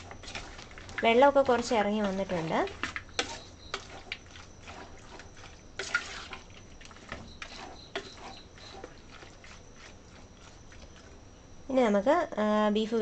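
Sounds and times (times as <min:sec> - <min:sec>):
wet squelches of meat mixing: 0:00.0 - 0:11.3.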